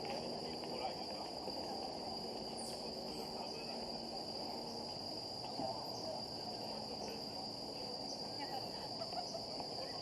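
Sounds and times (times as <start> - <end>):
insects droning: 0.0 - 10.0
low background murmur: 0.0 - 10.0.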